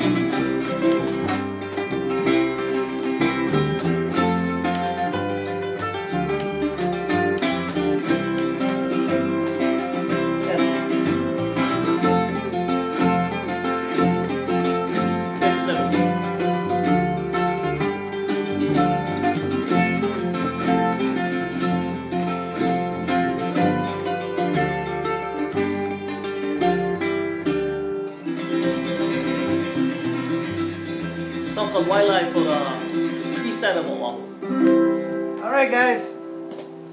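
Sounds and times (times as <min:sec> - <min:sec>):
steel-string tiple strummed chords: 0:00.0 - 0:36.9.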